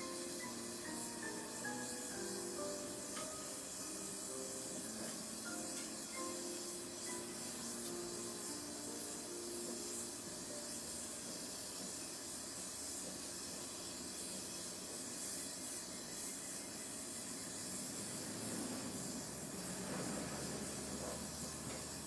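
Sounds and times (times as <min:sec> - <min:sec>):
torch flame hissing: 0:00.0 - 0:22.0.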